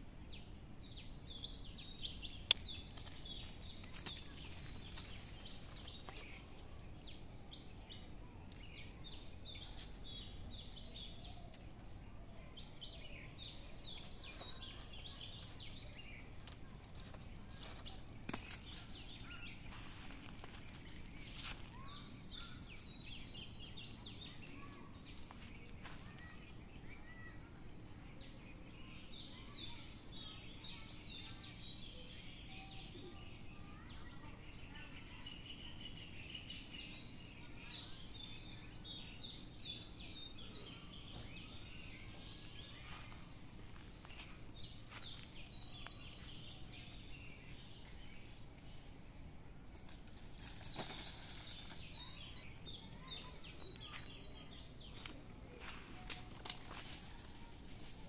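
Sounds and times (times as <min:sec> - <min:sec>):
low background noise: 0:00.0 - 0:58.0
small birds chirping: 0:00.0 - 0:58.0.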